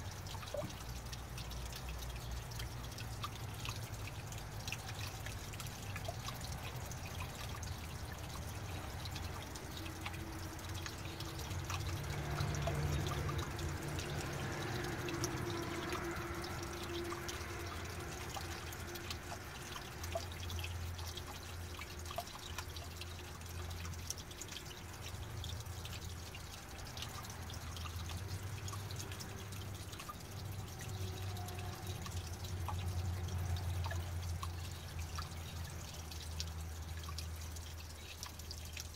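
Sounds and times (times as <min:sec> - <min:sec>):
fountain water dripping and trickling: 0:00.0 - 0:38.9.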